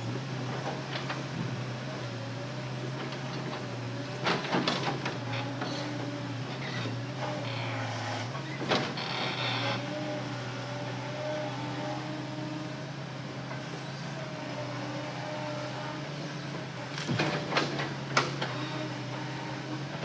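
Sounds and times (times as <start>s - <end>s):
excavator engine hum: 0.0s - 20.0s.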